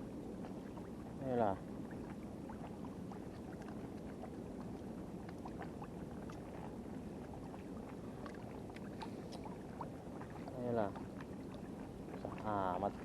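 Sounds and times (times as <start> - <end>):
water lapping on shoreline: 0.0 - 13.0.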